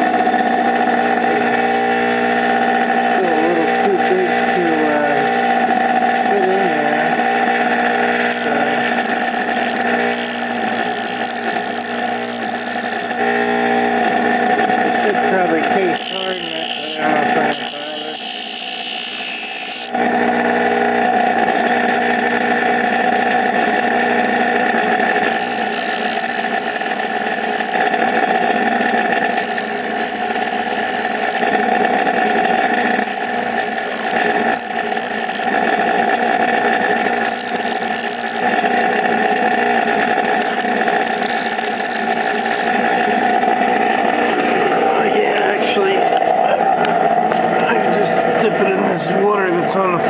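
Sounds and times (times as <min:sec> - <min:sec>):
grinder grinding metal pin: 0:00.0 - 0:50.0.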